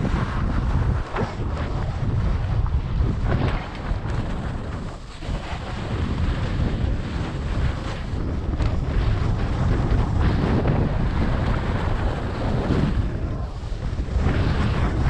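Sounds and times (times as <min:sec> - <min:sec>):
skis scraping on snow: 0:00.0 - 0:15.0
wind buffeting microphone: 0:00.0 - 0:15.0.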